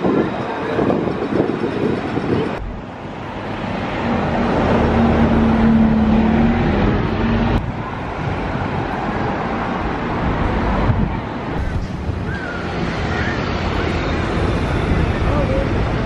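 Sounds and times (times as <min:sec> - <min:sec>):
city street traffic: 0:00.0 - 0:16.0
vehicle engine humming: 0:01.9 - 0:16.0.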